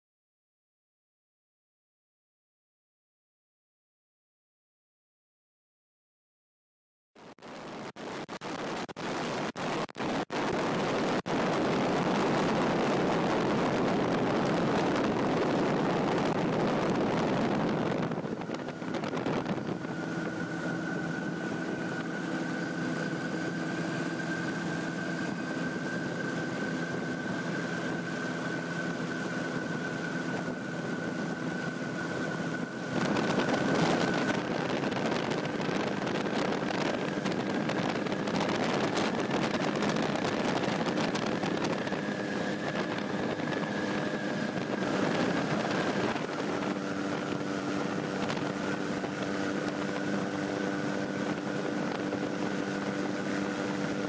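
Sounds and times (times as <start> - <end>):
wind rushing over microphone: 7.4 - 54.0
steady high whine: 7.8 - 54.0
aircraft engine drone: 9.0 - 54.0.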